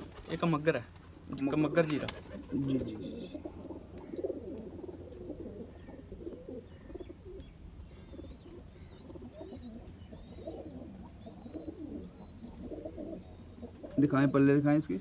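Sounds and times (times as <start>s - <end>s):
pigeons cooing: 0.0s - 15.0s
small birds chirping: 0.0s - 15.0s.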